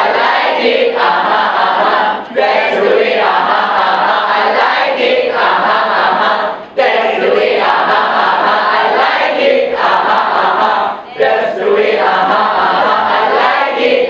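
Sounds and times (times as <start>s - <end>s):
crowd chanting in unison: 0.0s - 14.0s.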